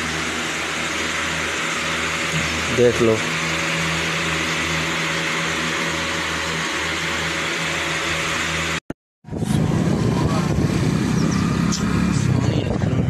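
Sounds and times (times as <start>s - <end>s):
motorcycle engine running: 0.0s - 13.0s
steady hum: 0.0s - 13.0s.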